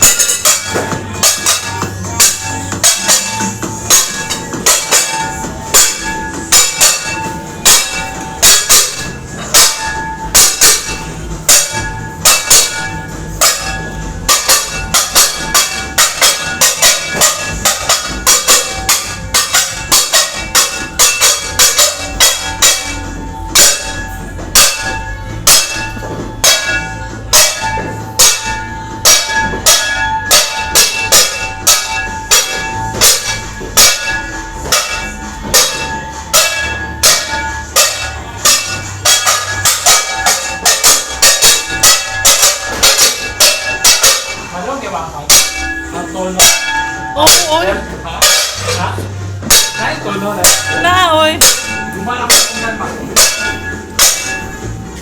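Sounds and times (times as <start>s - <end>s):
metal clanging: 0.0s - 55.0s.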